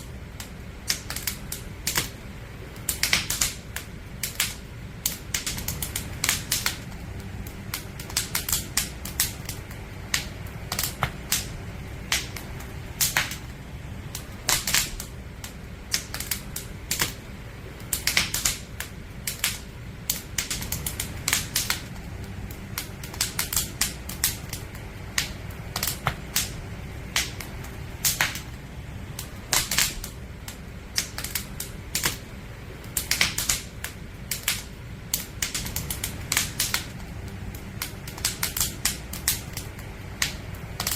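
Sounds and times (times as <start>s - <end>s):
campfire crackling and popping: 0.0s - 40.9s
fire low rumble: 0.0s - 40.9s.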